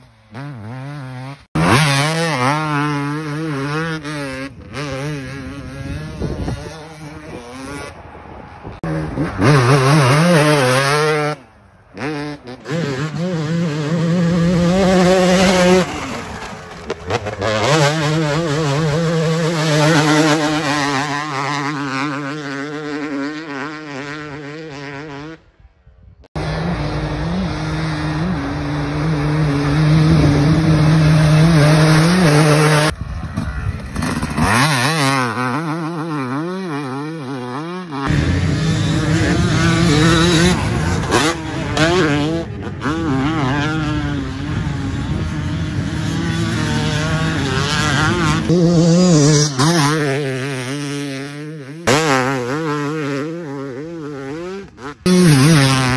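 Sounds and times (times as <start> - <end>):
motocross bikes revving: 0.0 - 25.4, 26.4 - 55.9.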